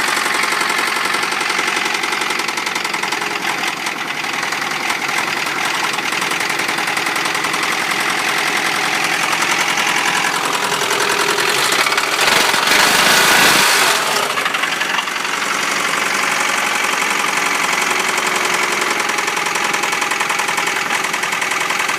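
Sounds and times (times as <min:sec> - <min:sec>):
car engine ticking: 0:00.0 - 0:21.9.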